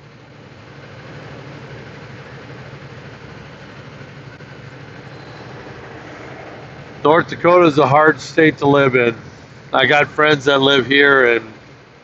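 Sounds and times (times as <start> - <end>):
low engine hum: 0.0 - 12.0
road and tyre noise: 0.0 - 12.0.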